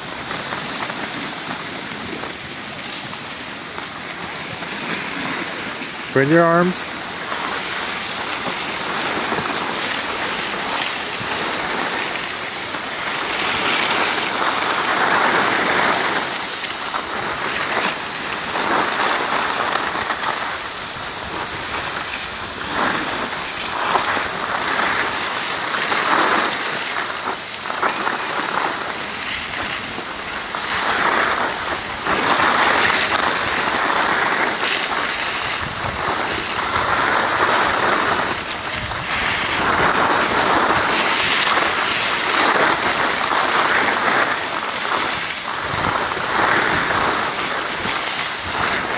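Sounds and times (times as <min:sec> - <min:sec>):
skis scraping over snow: 0:00.0 - 0:48.9.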